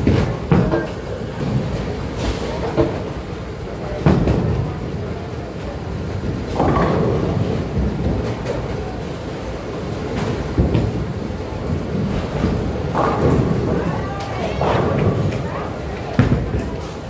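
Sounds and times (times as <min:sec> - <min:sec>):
bowling balls rumbling: 0:00.0 - 0:17.0.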